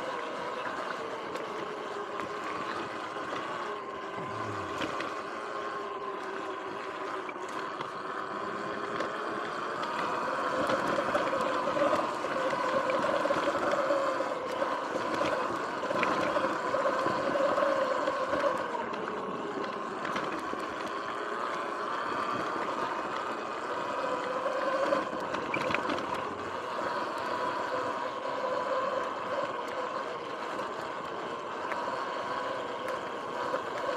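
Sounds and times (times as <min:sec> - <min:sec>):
electric motor whine: 0:00.0 - 0:33.9.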